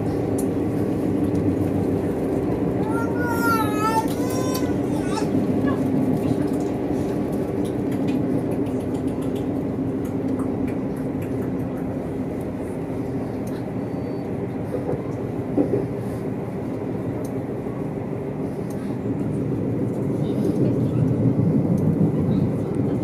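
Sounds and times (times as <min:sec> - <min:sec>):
light rail clicks: 0:00.0 - 0:02.6, 0:03.9 - 0:04.8, 0:06.0 - 0:13.8, 0:14.6 - 0:17.7, 0:18.5 - 0:23.0
train running rumble: 0:00.0 - 0:23.0.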